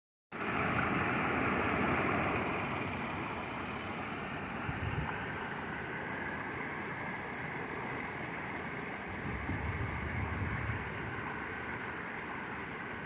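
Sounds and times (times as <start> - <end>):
water splashing over rocks: 0.4 - 13.0.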